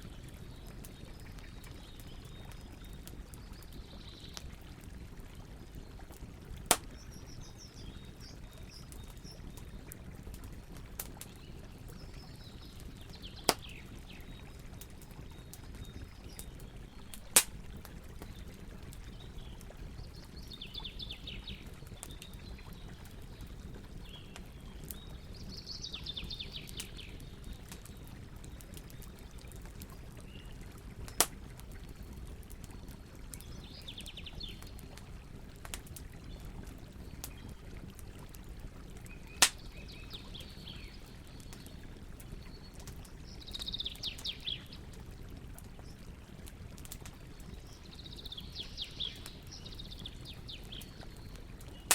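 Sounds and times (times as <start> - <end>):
campfire crackling: 0.0 - 51.9.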